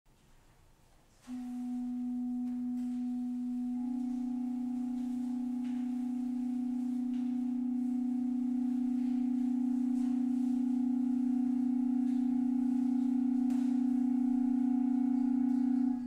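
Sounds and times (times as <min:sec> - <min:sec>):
organ holding soft notes: 0:01.2 - 0:16.0.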